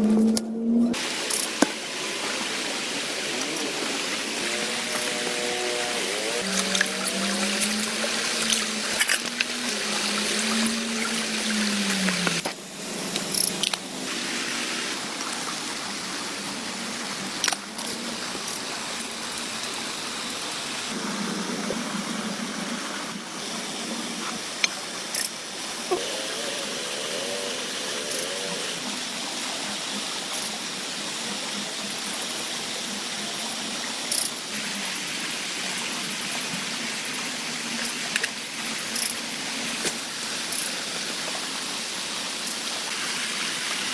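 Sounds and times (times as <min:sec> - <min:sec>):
steady rain hiss: 0:01.0 - 0:43.9.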